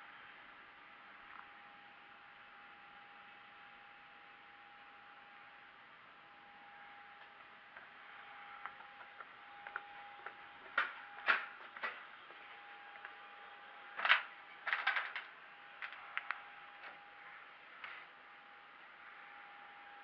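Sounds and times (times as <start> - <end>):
faint steady hum and hiss: 0.0 - 20.0.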